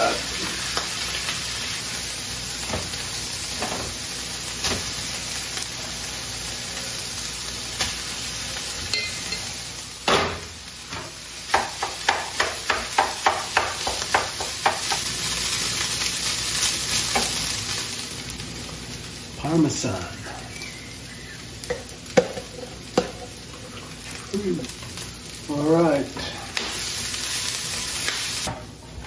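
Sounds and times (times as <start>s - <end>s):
meat and peppers sizzling in pan: 0.0s - 29.0s.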